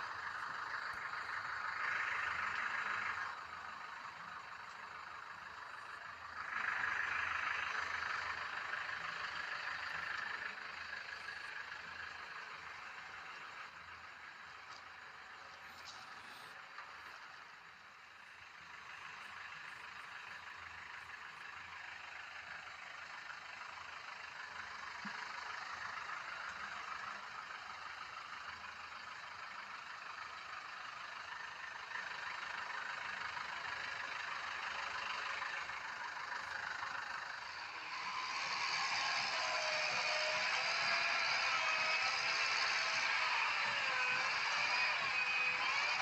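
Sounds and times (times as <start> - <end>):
concrete mixer diesel engine running: 0.0 - 46.0.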